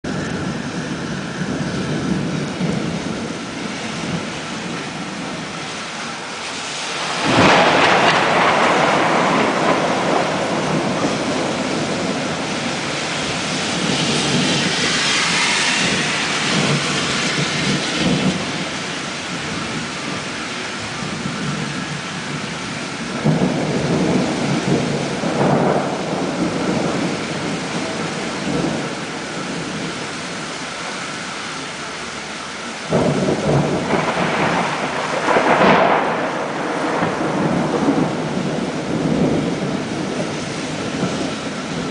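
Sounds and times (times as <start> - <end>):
thunder cracking and rumbling: 0.0 - 6.2, 6.8 - 30.5, 32.8 - 41.9
rain falling: 0.0 - 41.9.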